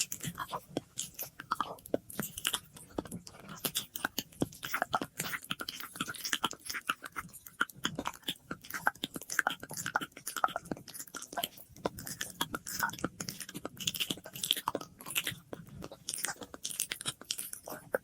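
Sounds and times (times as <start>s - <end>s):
wet mouth clicks and smacks: 0.0s - 18.0s.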